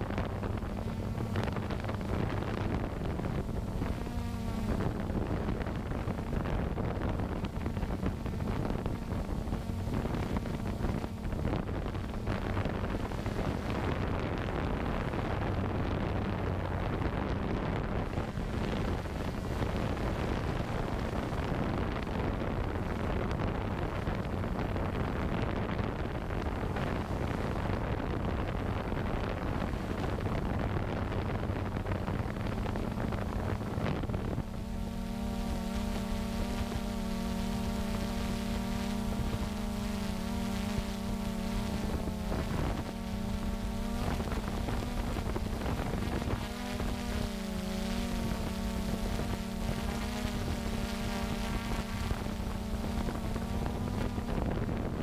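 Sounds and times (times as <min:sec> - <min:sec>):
drone propellers humming: 0:00.0 - 0:55.0
wind noise on microphone: 0:00.0 - 0:55.0.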